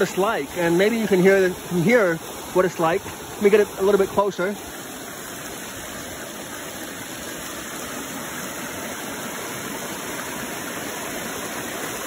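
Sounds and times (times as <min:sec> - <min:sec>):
water rushing over rock: 0:00.0 - 0:12.0.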